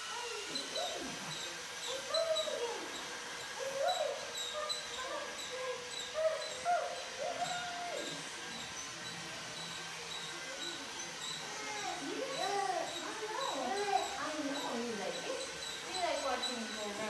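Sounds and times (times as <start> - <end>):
toy train running on track: 0.0 - 17.0.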